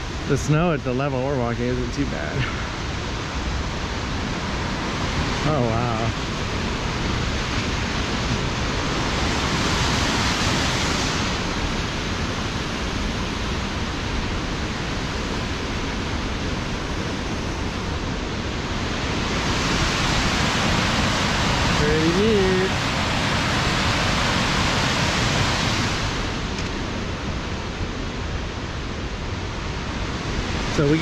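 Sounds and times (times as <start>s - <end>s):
large waterfall rushing: 0.0s - 31.0s.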